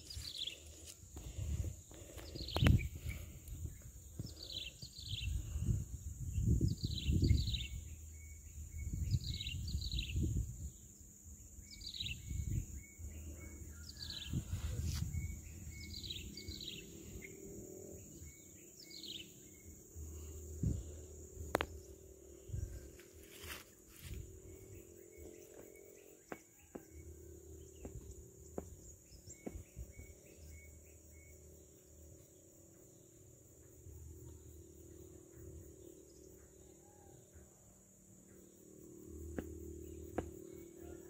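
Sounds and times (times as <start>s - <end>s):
high insect drone: 0.0s - 41.0s.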